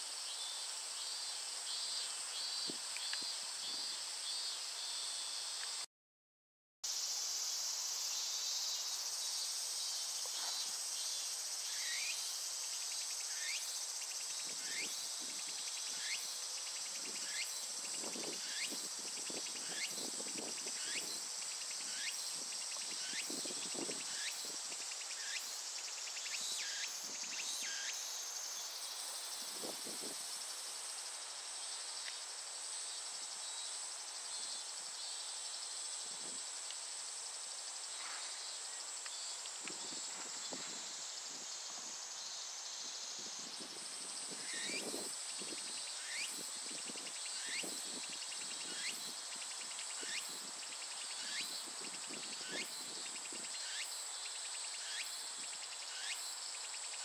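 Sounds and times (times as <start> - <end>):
cicadas buzzing: 6.9 - 57.0.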